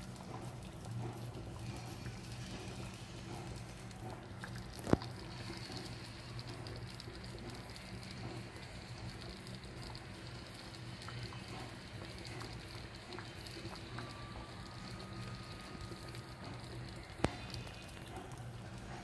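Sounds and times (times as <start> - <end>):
congee bubbling in a pot: 0.0 - 19.0.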